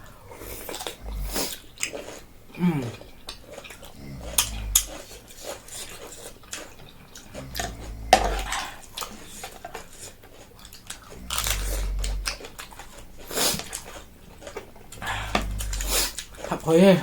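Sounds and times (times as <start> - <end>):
chewing and biting: 0.0 - 17.0.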